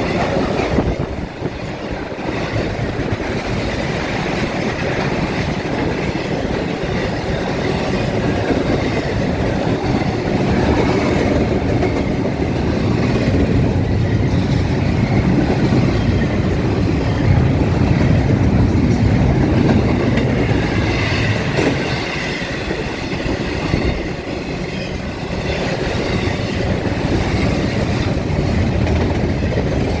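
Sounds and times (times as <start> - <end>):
train rolling on rails: 0.0 - 30.0.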